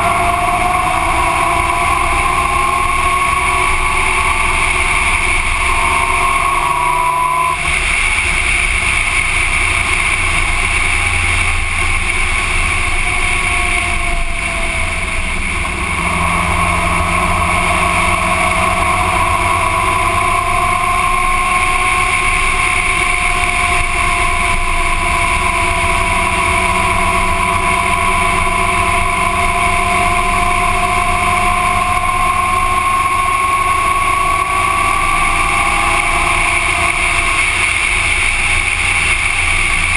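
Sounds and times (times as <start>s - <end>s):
motorcycle engine whine: 0.0s - 39.9s.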